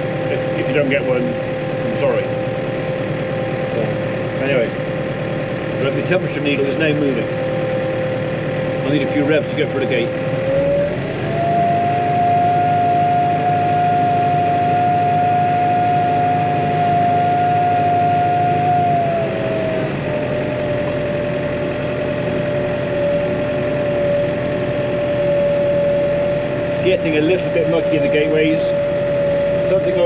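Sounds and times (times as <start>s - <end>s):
tractor engine revving with whine: 0.0s - 30.0s.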